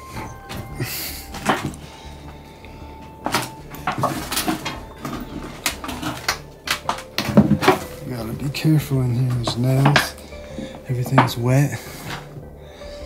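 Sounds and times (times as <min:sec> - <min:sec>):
footsteps on sheet metal and boards: 0:00.0 - 0:12.6.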